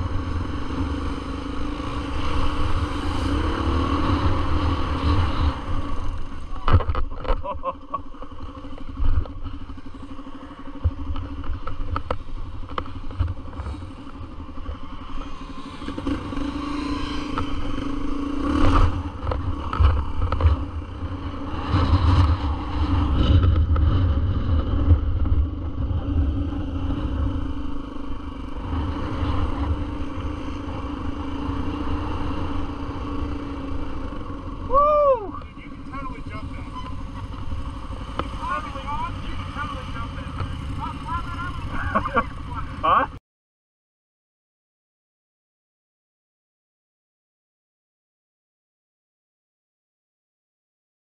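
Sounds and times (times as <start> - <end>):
dirt bike engine: 0.0 - 43.2.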